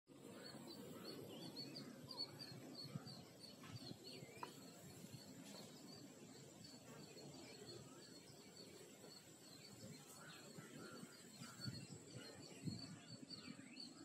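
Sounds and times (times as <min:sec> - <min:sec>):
faint high whine: 0:00.1 - 0:14.0
other birds calling: 0:00.1 - 0:14.0
small bird chirping: 0:00.1 - 0:14.0.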